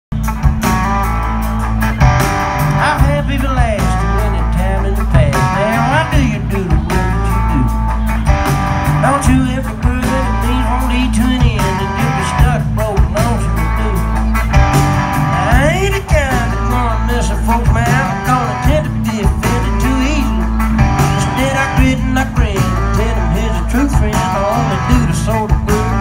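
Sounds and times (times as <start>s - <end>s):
bass: 0.0s - 26.0s
drums: 0.1s - 26.0s
electric guitar: 0.1s - 26.0s.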